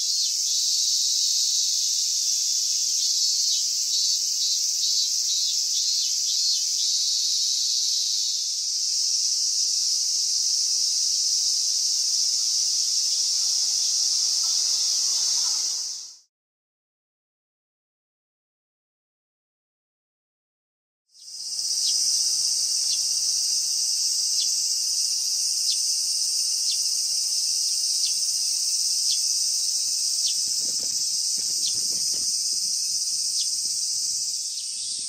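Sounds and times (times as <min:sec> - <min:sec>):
cicadas buzzing: 0:00.0 - 0:16.3, 0:21.2 - 0:35.0
faint pulsing insect call: 0:00.0 - 0:16.3, 0:21.2 - 0:35.0.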